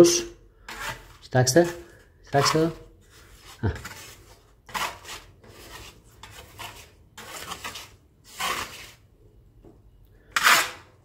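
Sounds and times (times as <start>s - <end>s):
scraper blade scraping wallpaper: 0.6s - 9.0s, 10.3s - 10.9s.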